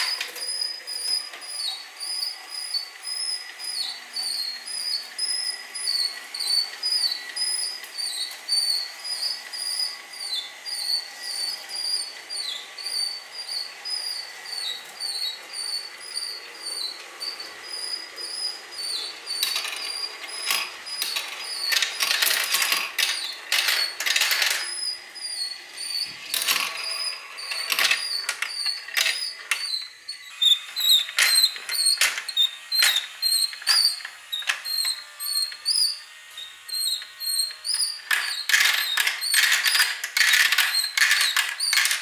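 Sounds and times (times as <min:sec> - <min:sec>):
marbles rolling and clacking: 0:00.0 - 0:36.0, 0:36.7 - 0:42.0
chain elevator ticking and squeaking: 0:00.0 - 0:42.0.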